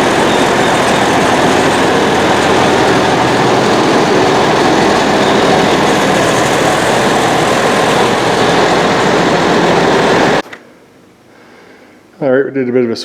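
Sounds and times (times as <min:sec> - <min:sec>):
tractor engine droning: 0:00.0 - 0:10.5.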